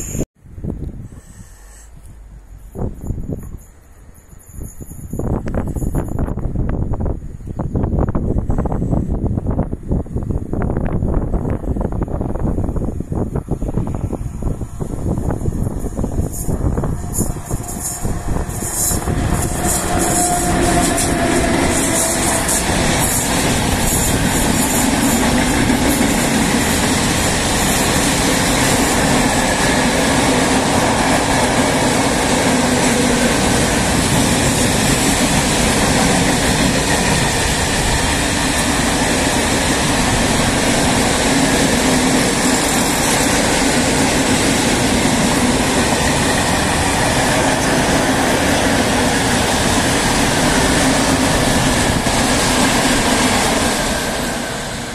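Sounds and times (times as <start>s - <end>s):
freight train wheels rumbling: 2.1s - 54.9s.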